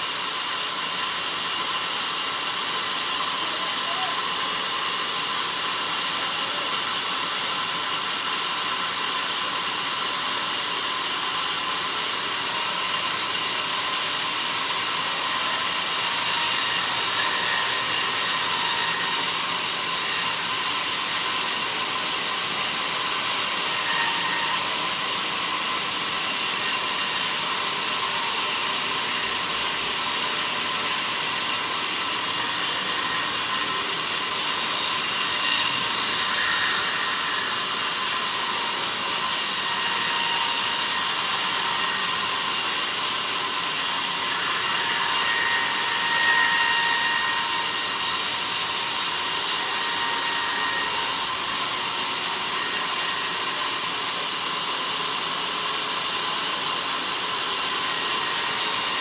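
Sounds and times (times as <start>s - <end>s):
bandsaw cutting through log: 0.0s - 59.0s.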